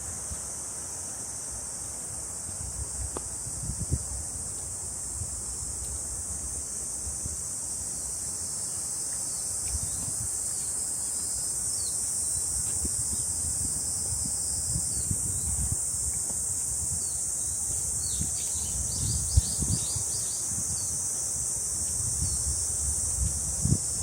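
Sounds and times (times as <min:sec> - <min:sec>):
high-pitched insect chorus: 0:00.0 - 0:24.0
soft footsteps on a trail: 0:01.2 - 0:22.3.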